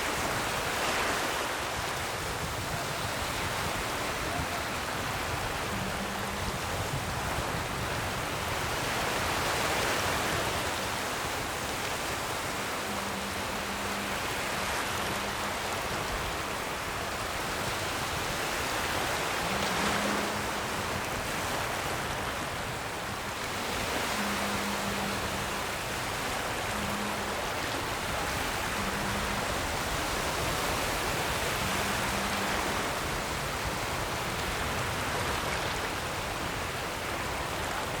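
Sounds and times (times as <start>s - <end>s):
ocean surf washing in: 0.0s - 38.0s.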